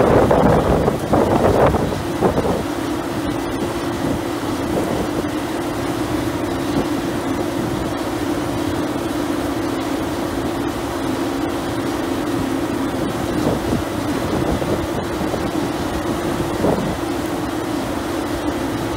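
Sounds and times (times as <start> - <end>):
combine harvester running: 0.0 - 18.9.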